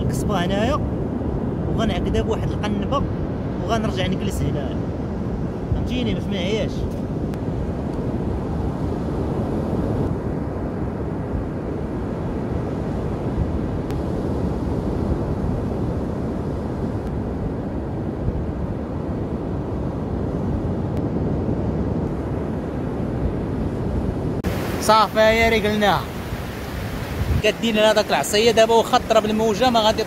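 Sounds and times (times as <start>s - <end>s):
heavy surf breaking: 0.0s - 30.0s
wind buffeting the microphone: 0.0s - 30.0s.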